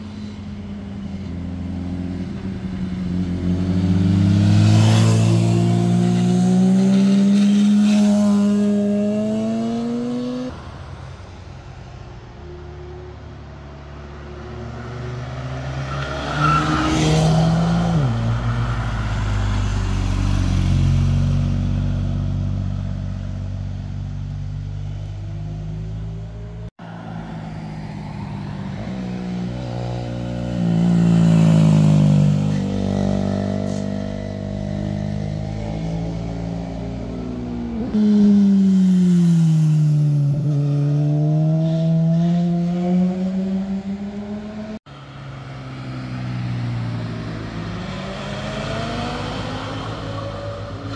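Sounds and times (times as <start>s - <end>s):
motorcycles passing: 0.0s - 50.9s.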